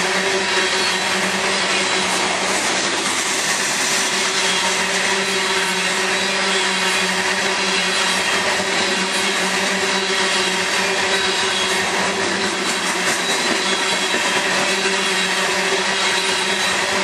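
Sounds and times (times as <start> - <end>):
steel wheels on rail: 0.0 - 17.0.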